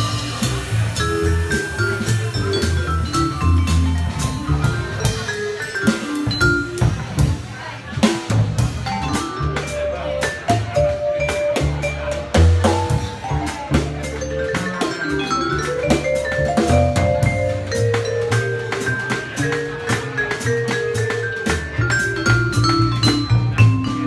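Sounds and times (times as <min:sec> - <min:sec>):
drum kit with cymbals: 0:00.0 - 0:24.0
plucked double bass: 0:00.0 - 0:24.0
vibraphone: 0:00.0 - 0:24.0.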